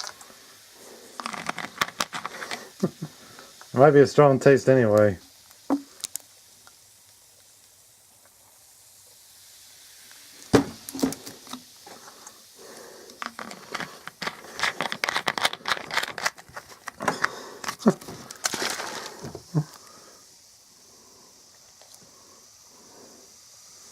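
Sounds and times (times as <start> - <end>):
ice cubes crackling in fizzy drink: 0.0 - 20.6.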